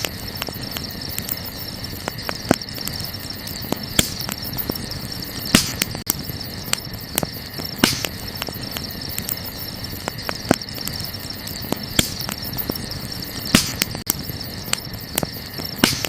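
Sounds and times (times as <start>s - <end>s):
campfire crackling and popping: 0.0s - 16.0s
crickets chirring: 0.0s - 16.0s.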